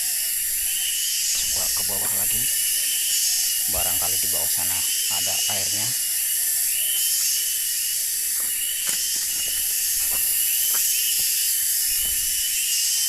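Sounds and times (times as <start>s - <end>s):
cicadas buzzing chorus: 0.0s - 13.0s.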